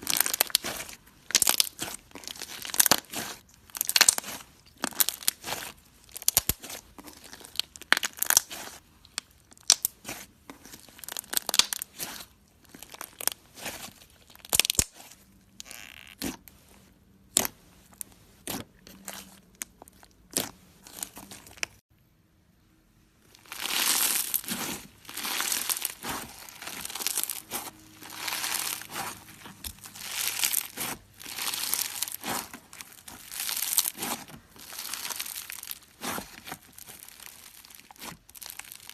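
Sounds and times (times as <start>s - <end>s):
slime popping and crackling: 0.0s - 16.4s, 17.3s - 21.8s, 23.4s - 38.9s.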